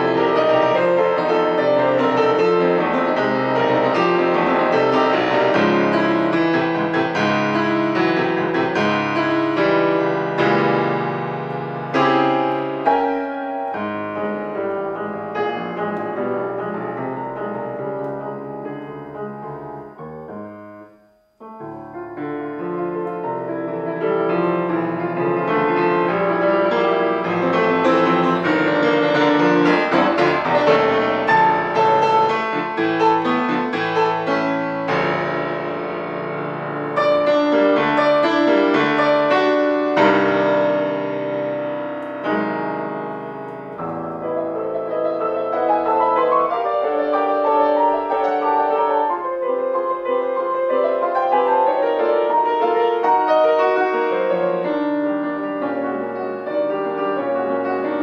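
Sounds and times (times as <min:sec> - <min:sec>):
solo grand piano classical: 0:00.0 - 0:58.0.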